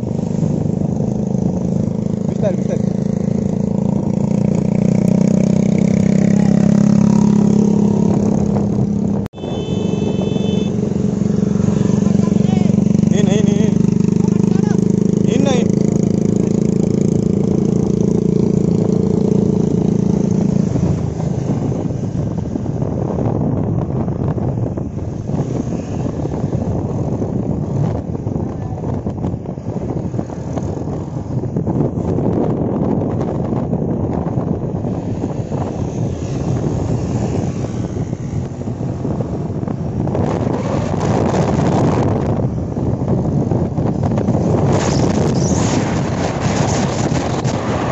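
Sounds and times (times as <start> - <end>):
motorcycle engine running: 0.0 - 47.6
road rumble: 0.0 - 47.9
wind: 0.0 - 47.9.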